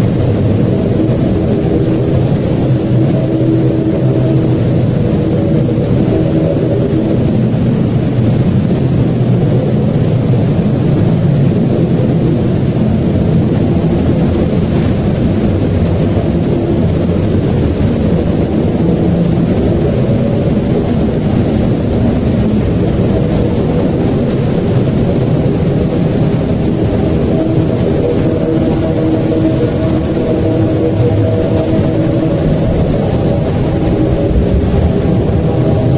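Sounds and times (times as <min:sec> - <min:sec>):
faint droning tones: 0:00.0 - 0:35.9
low rumble: 0:00.0 - 0:35.9.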